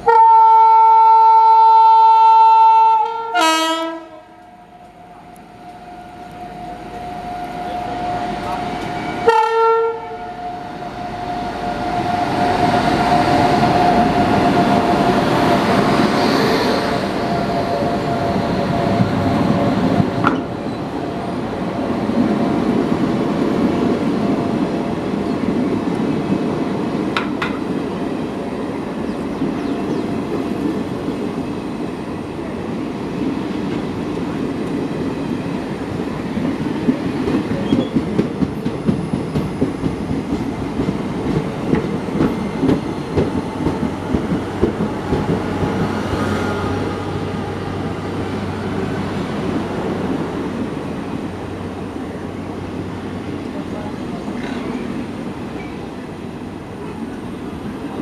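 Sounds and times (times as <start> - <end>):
passenger train rumbling past: 0.0 - 58.0.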